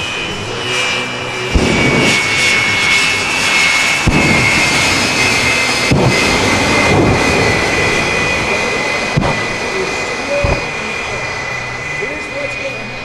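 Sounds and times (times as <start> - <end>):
jet engines whining: 0.0 - 13.0
afterburner bursts: 1.1 - 12.2.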